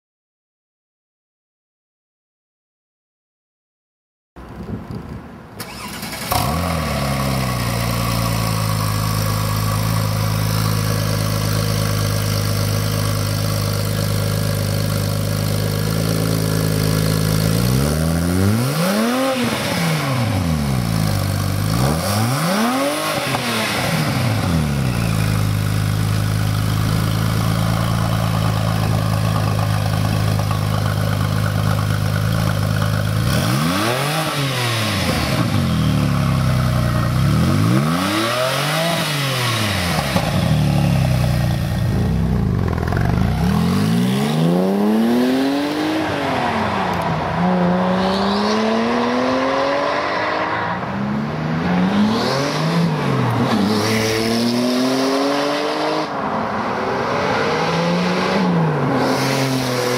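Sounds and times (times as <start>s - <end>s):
car engine idling and revving: 4.4s - 59.9s.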